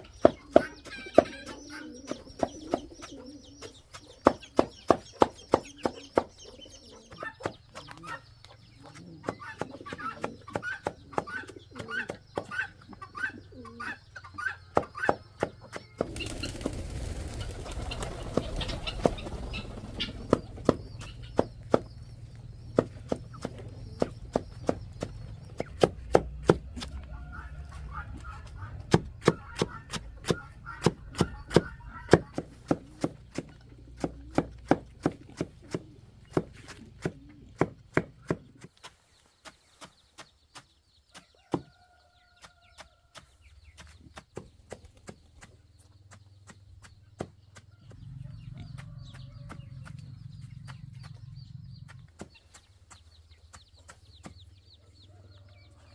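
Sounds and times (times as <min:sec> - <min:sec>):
chickens chirping: 0:00.0 - 0:55.9.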